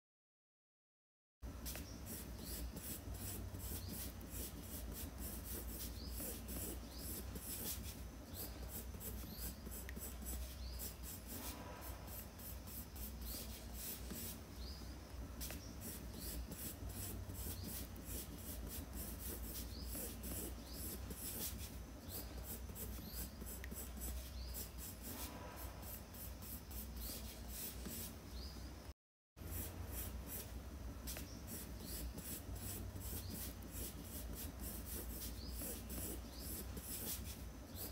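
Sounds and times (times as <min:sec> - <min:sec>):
pencil scratching on paper: 0:01.7 - 0:14.4, 0:15.4 - 0:28.2, 0:29.4 - 0:37.9.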